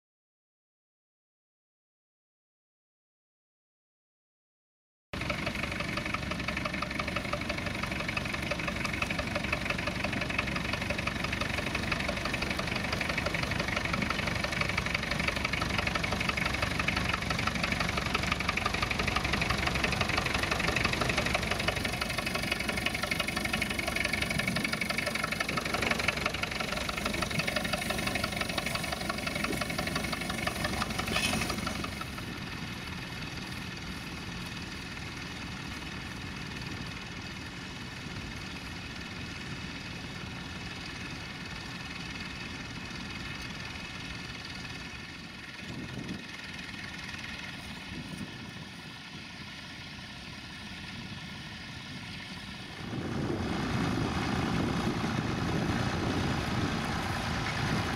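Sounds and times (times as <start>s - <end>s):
tractor engines running: 5.2s - 57.9s.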